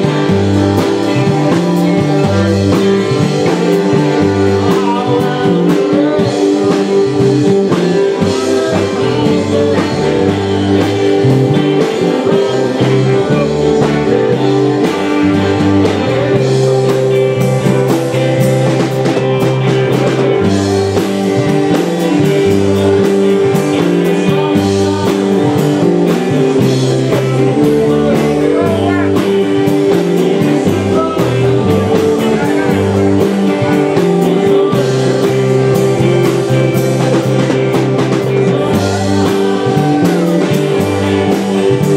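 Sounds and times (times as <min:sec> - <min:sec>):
bass guitar: 0:00.0 - 0:41.9
drums: 0:00.0 - 0:41.9
electric guitars: 0:00.0 - 0:41.9
man singing: 0:00.0 - 0:41.9.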